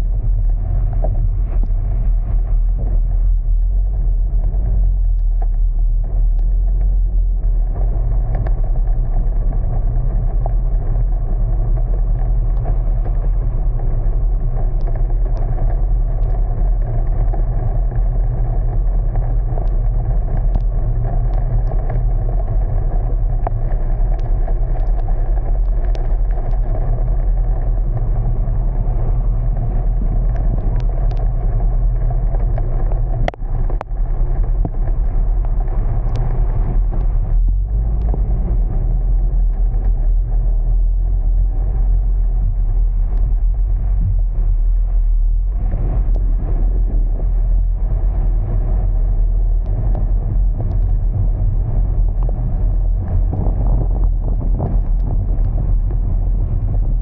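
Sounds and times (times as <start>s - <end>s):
car engine and road rumble: 0.0s - 57.0s
faint ticks: 0.4s - 2.9s, 3.9s - 45.0s, 49.6s - 56.9s.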